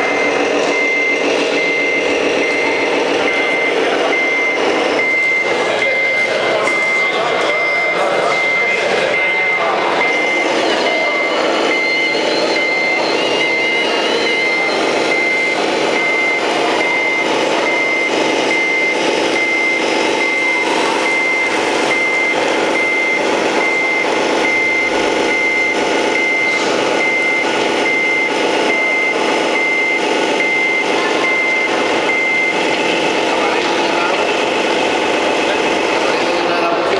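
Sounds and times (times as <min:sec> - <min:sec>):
diesel truck engine running: 0:00.0 - 0:36.9
reversing alarm beeps: 0:00.0 - 0:36.9.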